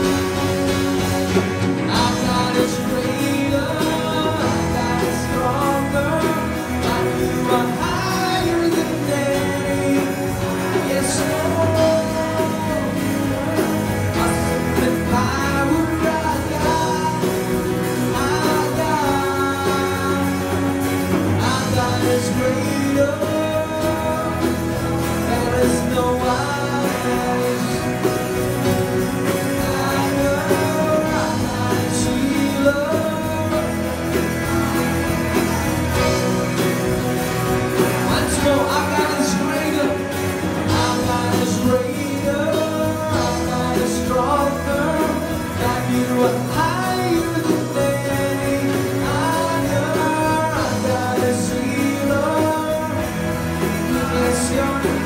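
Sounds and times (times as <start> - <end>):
bass: 0.0 - 55.0
drum kit: 0.0 - 55.0
electric and acoustic guitars: 0.0 - 55.0
keyboard: 0.0 - 55.0
person singing: 0.0 - 55.0.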